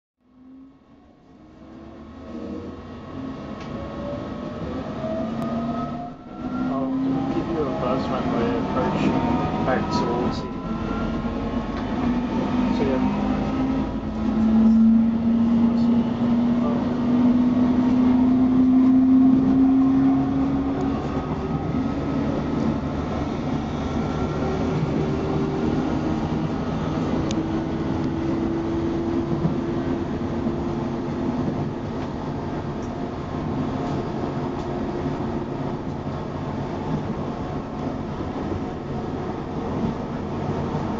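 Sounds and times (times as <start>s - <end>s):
train wheels rumbling on rail: 1.5s - 40.9s.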